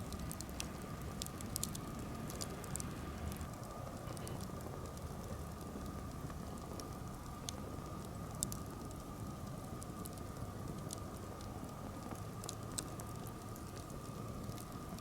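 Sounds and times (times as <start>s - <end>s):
campfire crackling and popping: 0.0s - 15.0s
low steady hiss: 0.0s - 15.0s.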